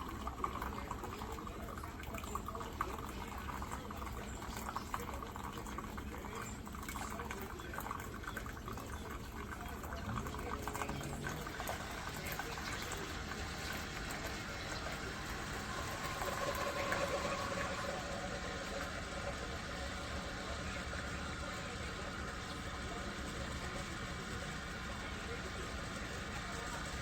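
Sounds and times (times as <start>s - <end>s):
coffee maker brewing: 0.0s - 27.0s
liquid streaming into cup: 0.0s - 27.0s.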